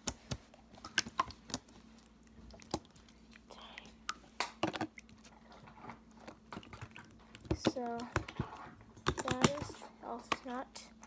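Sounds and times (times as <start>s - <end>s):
slime squelching and clicking: 0.0s - 9.8s.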